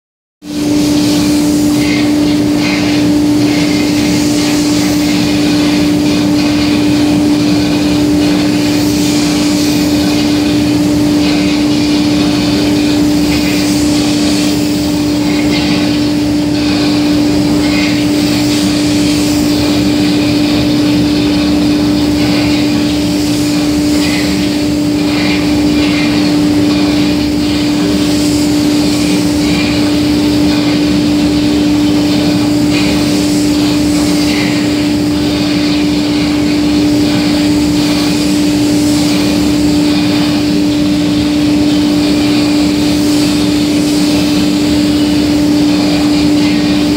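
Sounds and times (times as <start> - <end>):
spray booth machinery hum: 0.4 - 46.9
spray gun hissing: 0.4 - 46.9.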